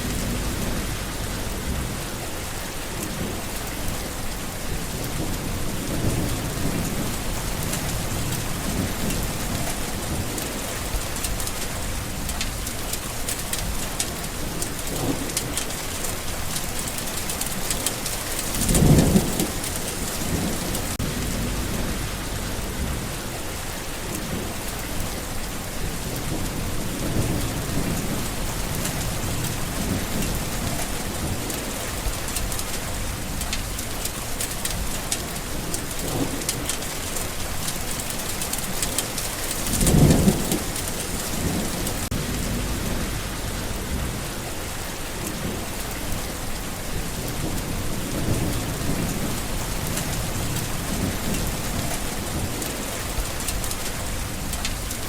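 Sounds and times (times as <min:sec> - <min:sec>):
low thunder rumble: 0:00.0 - 0:02.4, 0:03.1 - 0:23.6, 0:24.2 - 0:34.0, 0:34.7 - 0:55.0
steady rain falling: 0:00.0 - 0:55.0.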